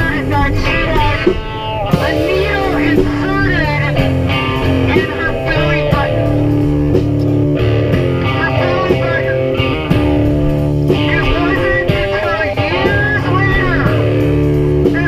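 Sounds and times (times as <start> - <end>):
drum kit: 0.0 - 15.0
electric guitar chords: 0.0 - 15.0.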